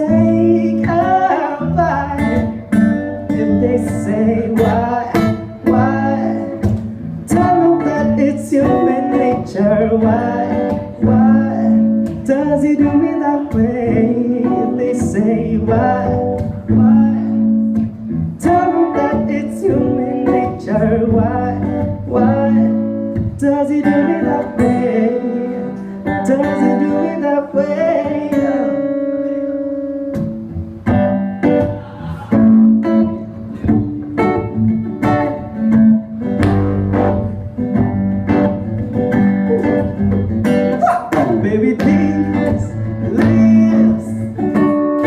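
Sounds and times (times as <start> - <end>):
acoustic guitar strumming chords: 0.0 - 45.0.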